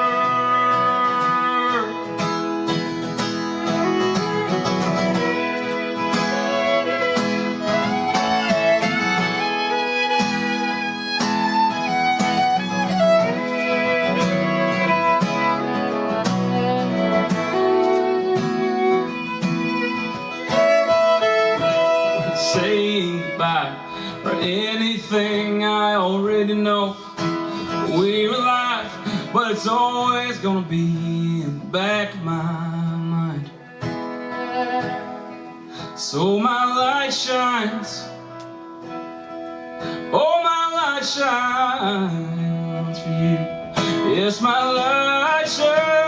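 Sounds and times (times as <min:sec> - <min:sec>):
fiddle sliding melody: 0:00.0 - 0:26.5, 0:27.3 - 0:46.0
strummed acoustic guitar: 0:00.0 - 0:46.0.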